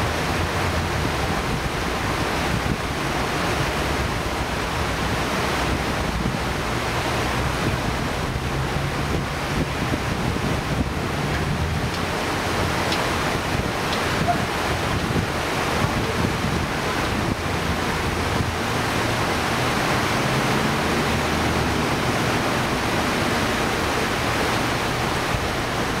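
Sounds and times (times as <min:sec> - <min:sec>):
river water rushing over stones: 0:00.0 - 0:26.0.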